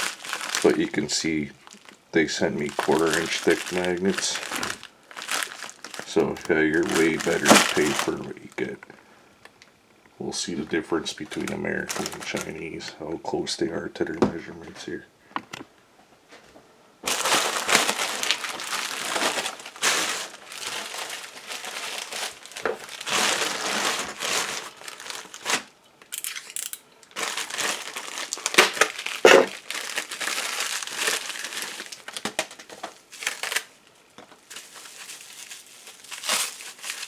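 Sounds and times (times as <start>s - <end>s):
packaging crinkling and rustling: 0.0s - 8.8s, 11.2s - 12.7s, 17.0s - 37.0s.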